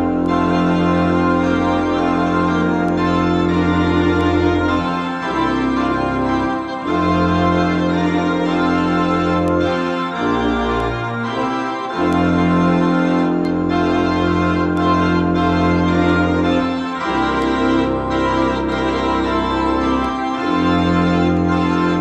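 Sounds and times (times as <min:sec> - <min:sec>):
electronic organ playing a hymn: 0:00.0 - 0:22.0.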